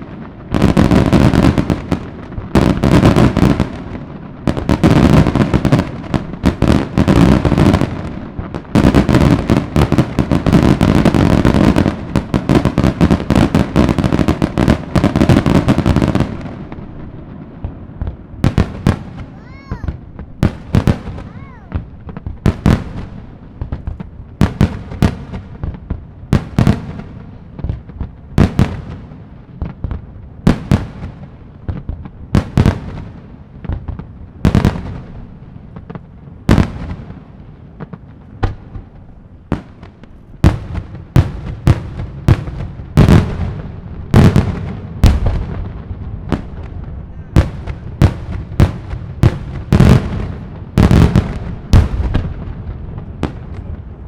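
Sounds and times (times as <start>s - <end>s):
fireworks bangs echoing: 0.0s - 54.0s.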